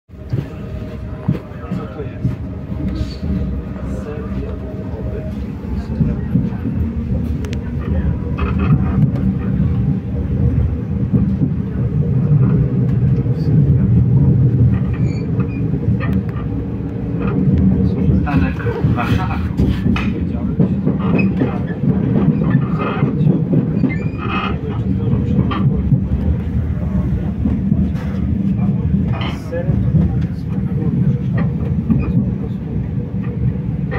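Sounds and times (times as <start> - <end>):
train wheels rumbling: 0.1 - 33.9.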